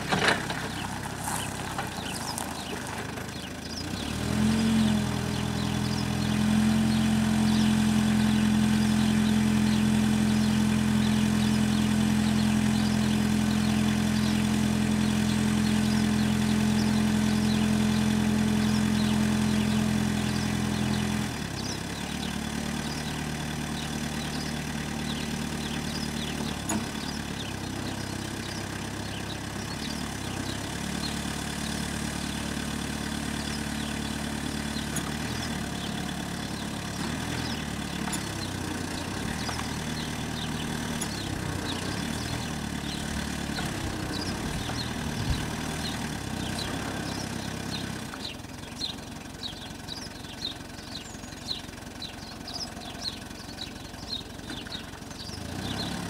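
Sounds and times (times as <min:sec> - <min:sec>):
diesel forklift engine running: 0:00.0 - 0:56.0.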